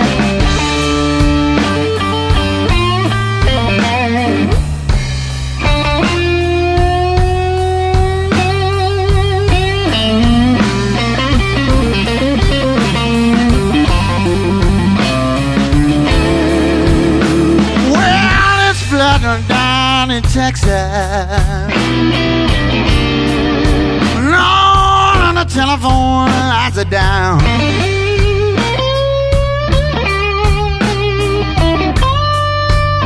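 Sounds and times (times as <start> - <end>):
bass: 0.0 - 33.0
drums: 0.0 - 33.0
electric guitar lead: 0.0 - 33.0.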